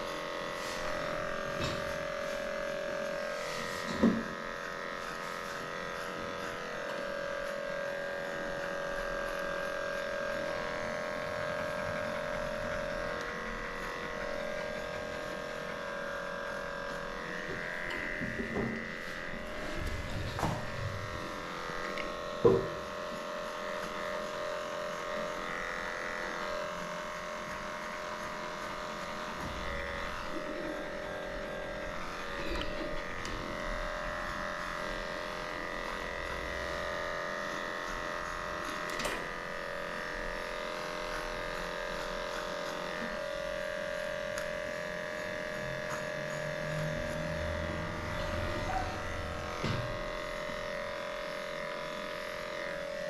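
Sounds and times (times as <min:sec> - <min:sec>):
electric clippers whining: 0:00.0 - 0:53.0.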